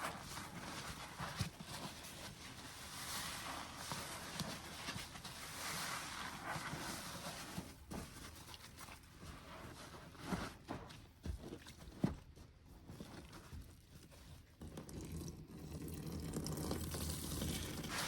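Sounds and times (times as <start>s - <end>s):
soapy sponge squishing: 0.0s - 18.0s.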